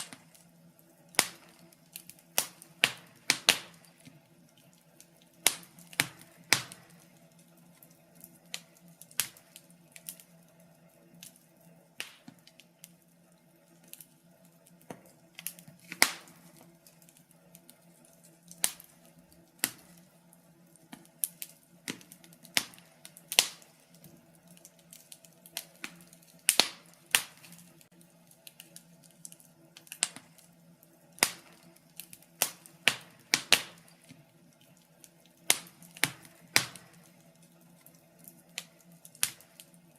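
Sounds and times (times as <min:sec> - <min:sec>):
fireplace fire crackling and popping: 0:00.0 - 0:39.9.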